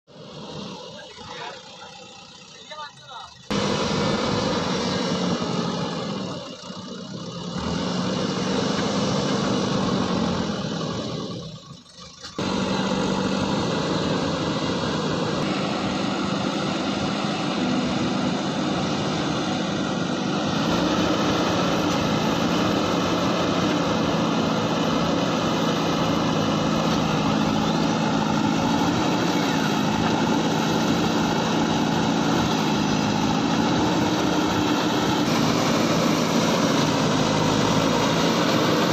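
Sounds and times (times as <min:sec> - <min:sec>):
diesel engine running: 0:00.1 - 0:38.9.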